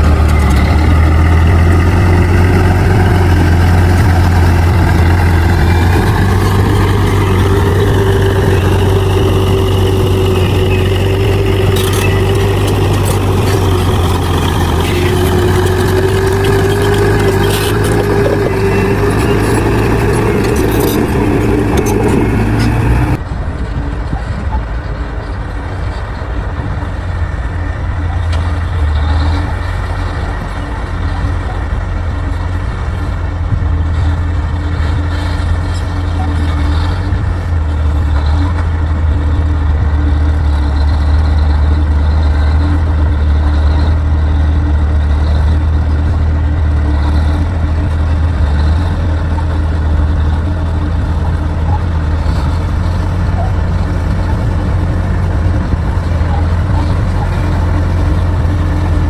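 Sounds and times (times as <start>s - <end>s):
bulldozer engine droning: 0.0s - 59.0s.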